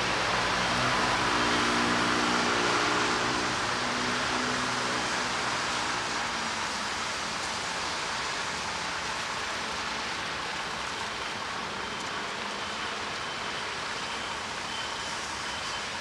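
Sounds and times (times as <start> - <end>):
rain on a street: 0.0 - 16.0.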